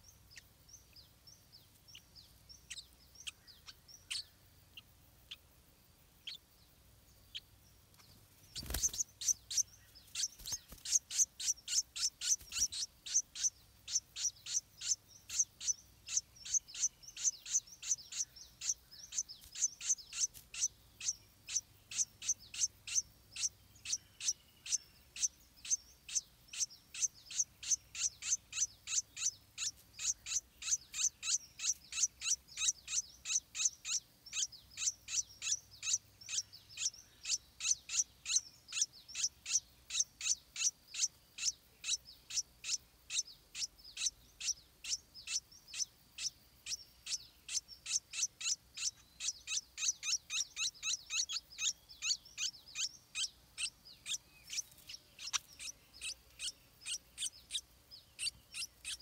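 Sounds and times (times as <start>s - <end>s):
bird nestling begging calls: 1.9s - 4.3s, 8.5s - 59.0s.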